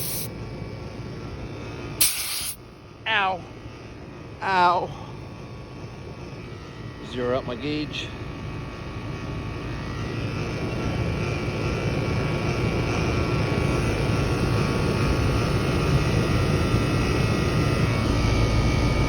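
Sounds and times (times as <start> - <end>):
air conditioner unit humming: 0.0 - 19.0.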